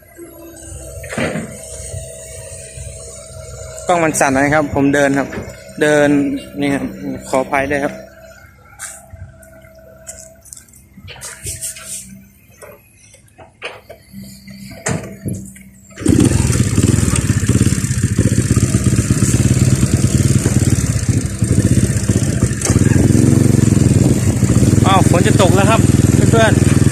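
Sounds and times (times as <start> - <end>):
motorcycle engine starting and running: 0.0 - 26.9.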